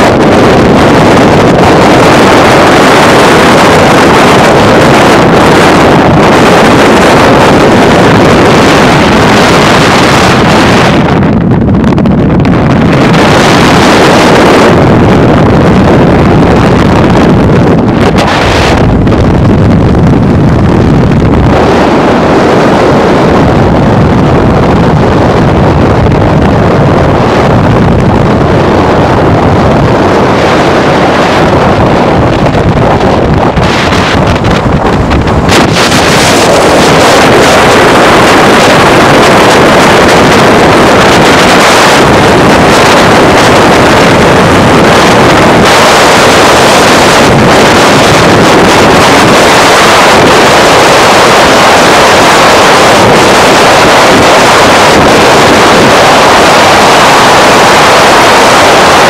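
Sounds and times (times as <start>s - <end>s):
car wind and road noise: 0.0s - 59.0s
wind hitting microphone: 0.0s - 59.0s.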